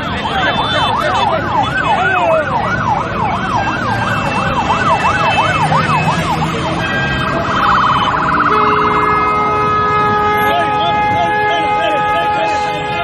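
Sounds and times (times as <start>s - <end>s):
siren warble with horn-like tones: 0.0s - 13.0s
sirens yelping: 0.0s - 13.0s.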